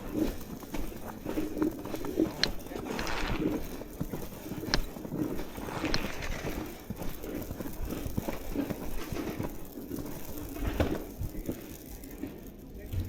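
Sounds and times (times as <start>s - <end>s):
footsteps crunching through snow: 0.0s - 13.0s.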